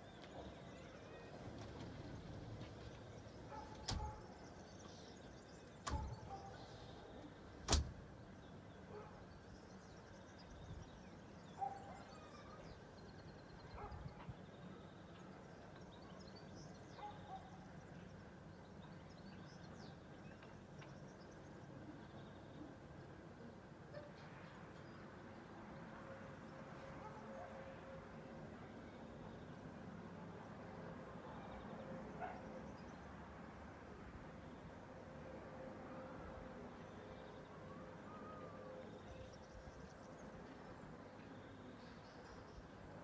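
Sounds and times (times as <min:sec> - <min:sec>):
low steady background noise: 0:00.0 - 0:43.0.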